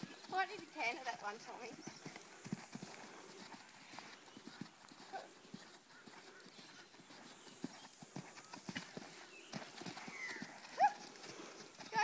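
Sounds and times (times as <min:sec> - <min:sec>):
hooves thudding on sand: 0:00.0 - 0:12.0.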